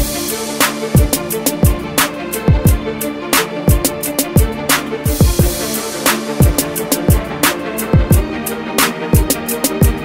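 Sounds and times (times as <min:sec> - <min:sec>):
deep kick drums gliding down: 0:00.0 - 0:08.5
held synth chord: 0:00.0 - 0:10.0
hi-hat ticks: 0:00.0 - 0:10.0.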